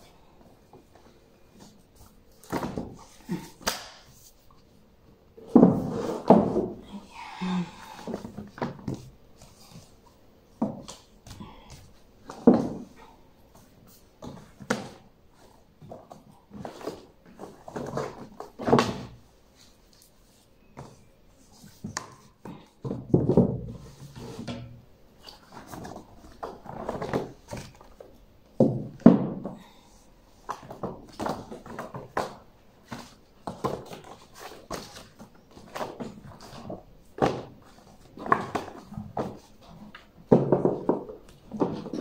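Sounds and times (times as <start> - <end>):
books knocking and thudding: 0.7 - 4.2, 5.4 - 6.9, 7.6 - 19.7, 21.6 - 29.8, 30.4 - 42.0.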